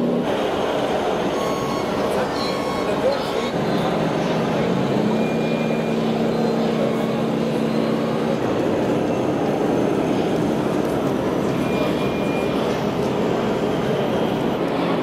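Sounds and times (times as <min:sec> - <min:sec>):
busy exhibition hall noise: 0:00.0 - 0:15.0
engine-like drone of toy trucks: 0:00.0 - 0:15.0
held hum tones: 0:00.0 - 0:15.0.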